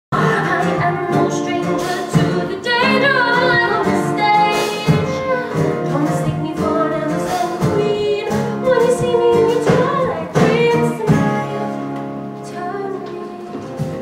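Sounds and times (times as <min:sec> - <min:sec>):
musical accompaniment: 0:00.1 - 0:14.0
woman singing: 0:00.1 - 0:14.0.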